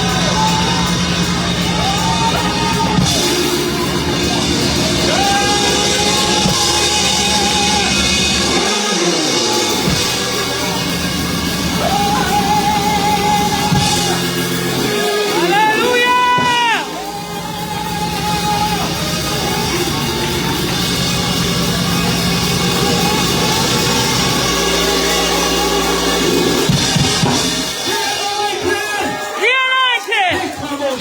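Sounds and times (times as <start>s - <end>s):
drum kit: 0.0s - 31.0s
live praise music: 0.0s - 31.0s.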